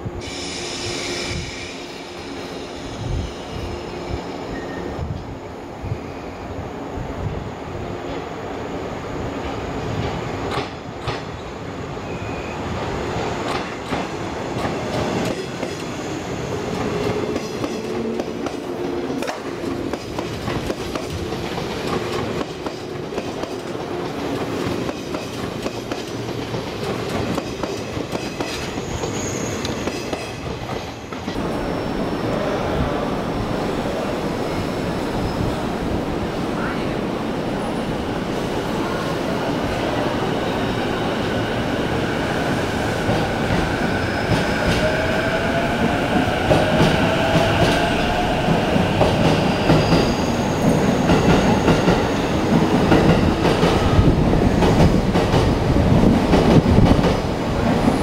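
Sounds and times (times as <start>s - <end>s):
electric train rumbling: 0.0s - 58.0s.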